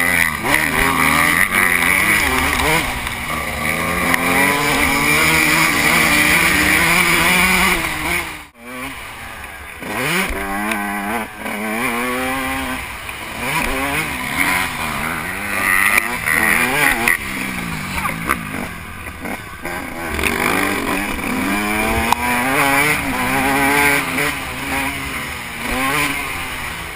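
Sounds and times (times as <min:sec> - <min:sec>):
motocross bike engine revving: 0:00.0 - 0:26.9.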